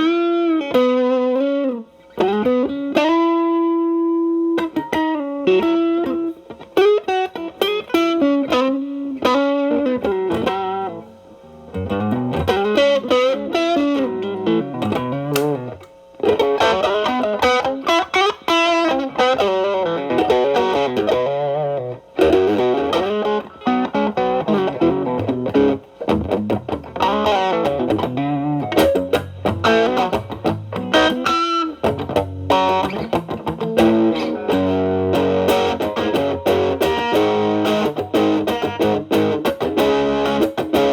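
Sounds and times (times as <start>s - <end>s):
distorted electric guitar blues lead: 0.0s - 40.9s.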